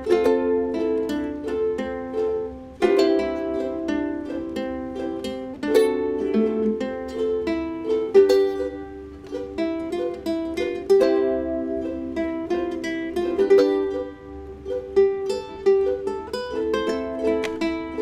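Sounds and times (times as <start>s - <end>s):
ukuleles playing: 0.0s - 18.0s.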